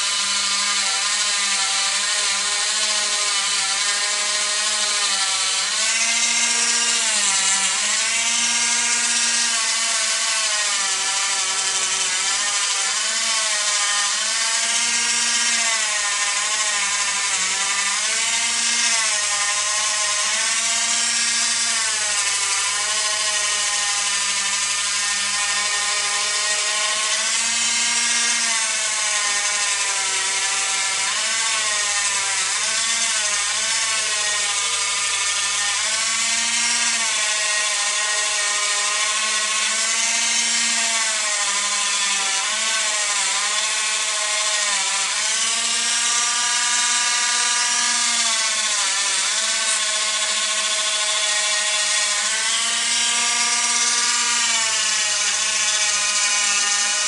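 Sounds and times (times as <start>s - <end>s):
rotary tool grinding metal: 0.0s - 57.0s.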